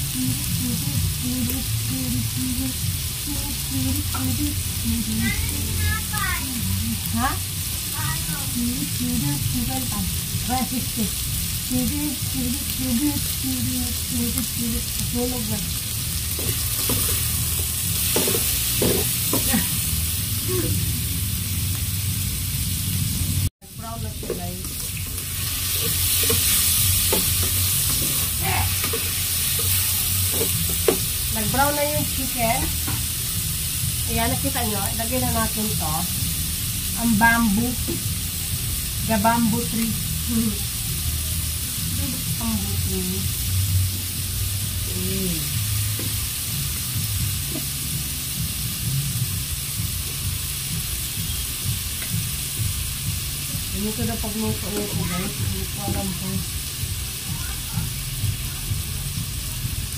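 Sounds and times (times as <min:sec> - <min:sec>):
chicken sizzling in a pot: 0:00.0 - 0:59.9.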